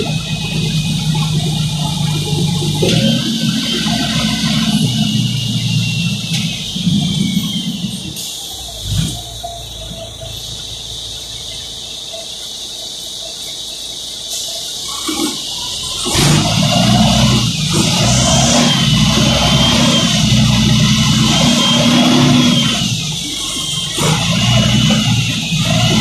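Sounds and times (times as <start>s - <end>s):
bus engine rumble: 0.0s - 26.0s
steady hiss: 0.0s - 26.0s.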